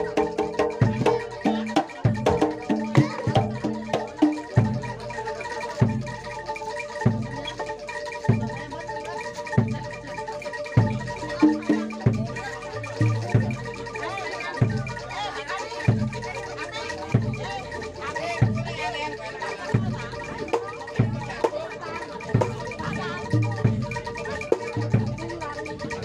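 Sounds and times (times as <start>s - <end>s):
gamelan music: 0.0s - 26.0s.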